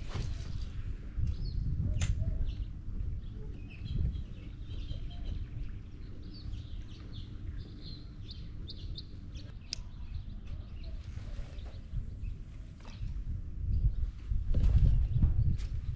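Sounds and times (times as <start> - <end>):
steady low rumble: 0.0 - 15.9
small birds chirping: 0.2 - 14.2.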